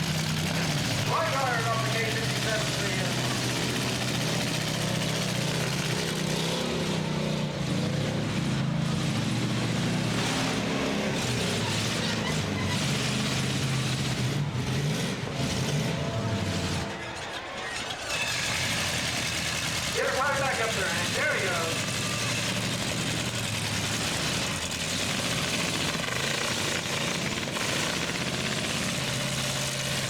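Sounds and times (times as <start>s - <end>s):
truck engines revving: 0.0s - 30.0s.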